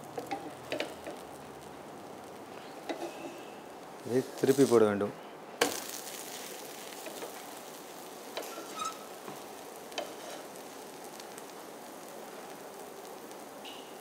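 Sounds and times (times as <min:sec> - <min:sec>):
pancake sizzling in oil: 0:00.0 - 0:14.0.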